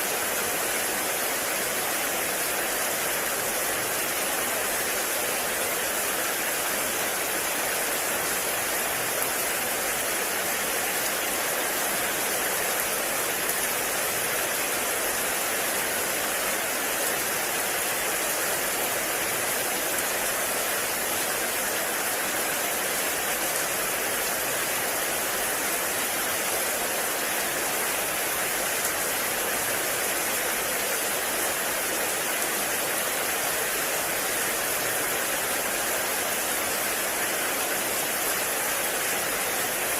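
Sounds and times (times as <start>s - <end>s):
heavy rain in a forest: 0.0s - 39.9s.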